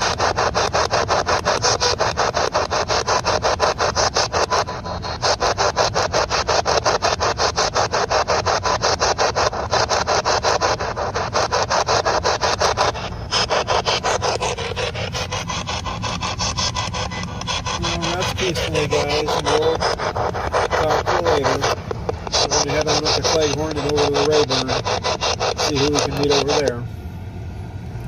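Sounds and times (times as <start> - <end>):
radio static pulses: 0.0 - 26.9.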